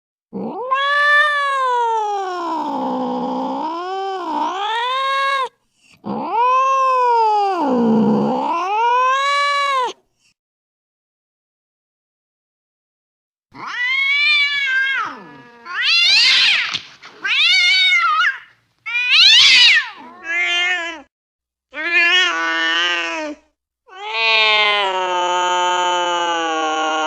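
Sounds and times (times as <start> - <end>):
cat yowling angrily: 0.4 - 10.0, 13.6 - 21.1, 21.8 - 27.0.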